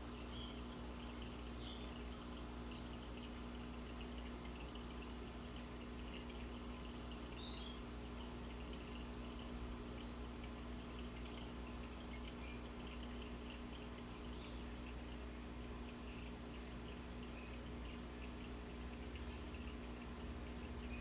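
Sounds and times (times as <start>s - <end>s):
aquarium equipment humming: 0.0s - 21.0s
faint high chirps: 0.1s - 21.0s.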